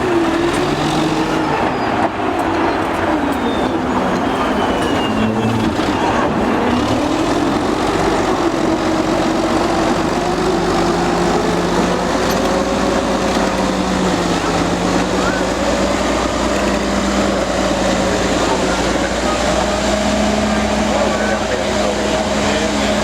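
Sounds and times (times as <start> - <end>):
bulldozer diesel engine under load: 0.0 - 23.0
steel tracks clattering: 0.0 - 23.0.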